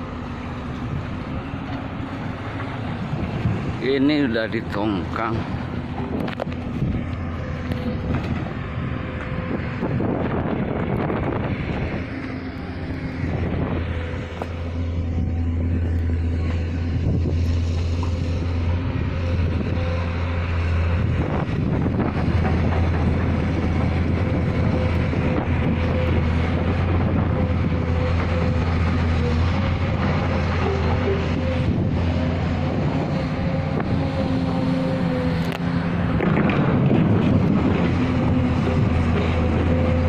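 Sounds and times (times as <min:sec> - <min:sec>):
heavy diesel machinery humming: 0:00.0 - 0:40.0
wind buffeting microphone: 0:02.3 - 0:03.9, 0:04.6 - 0:40.0.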